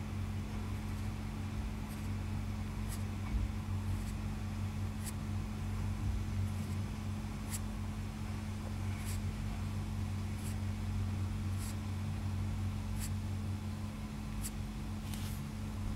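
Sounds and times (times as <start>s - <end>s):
low electrical hum: 0.0s - 15.9s.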